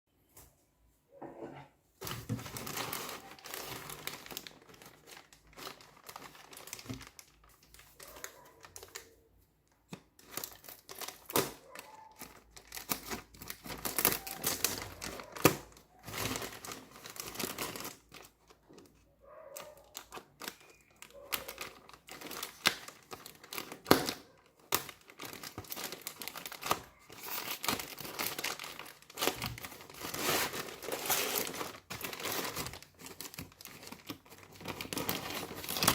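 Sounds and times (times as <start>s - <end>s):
packaging crinkling and tearing: 2.0s - 35.9s.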